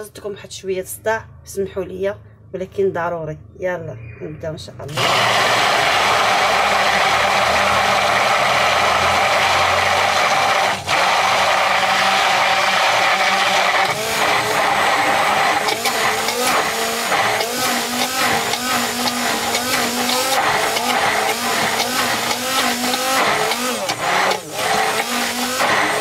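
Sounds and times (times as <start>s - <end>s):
immersion blender running: 4.9s - 26.0s.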